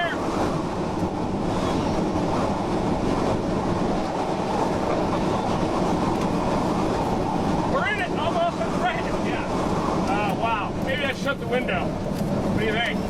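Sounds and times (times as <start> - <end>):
loud roar of tornado winds: 0.0 - 13.0.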